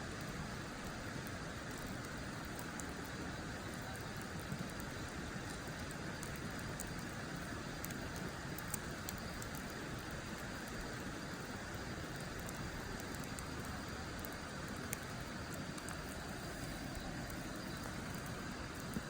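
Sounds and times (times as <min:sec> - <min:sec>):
wood fire crackling: 0:00.0 - 0:19.0
sharp pops from fire: 0:00.1 - 0:19.0.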